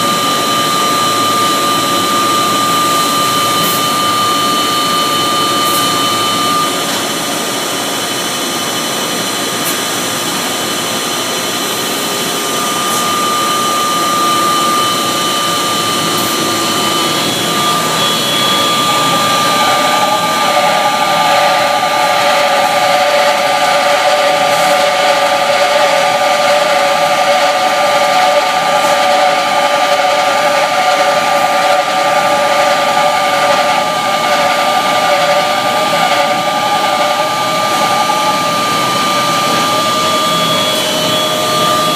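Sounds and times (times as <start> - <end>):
belt-driven machine whining: 0.0 - 41.9
lower squealing tone: 0.0 - 41.9.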